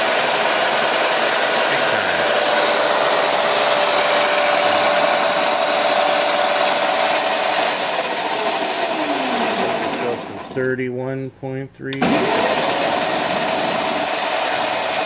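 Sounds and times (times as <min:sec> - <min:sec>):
electric motor whine: 0:00.0 - 0:10.6, 0:12.0 - 0:15.0.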